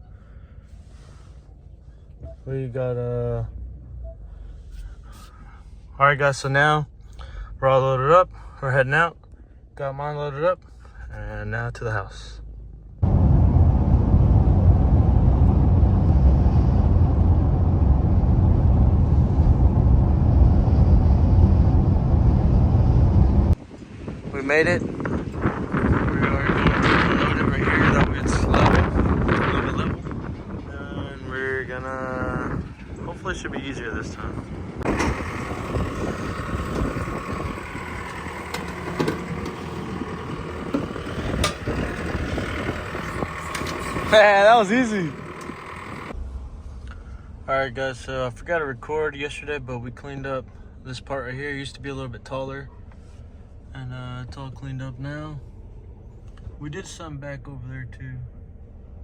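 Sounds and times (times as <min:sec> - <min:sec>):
truck engine and road noise: 0:00.0 - 0:59.0.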